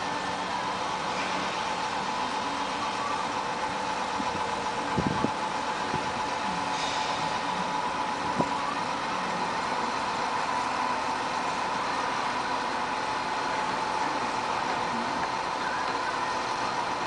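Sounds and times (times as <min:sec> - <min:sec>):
engine idling: 0:00.0 - 0:17.0
steady whine: 0:00.0 - 0:17.0.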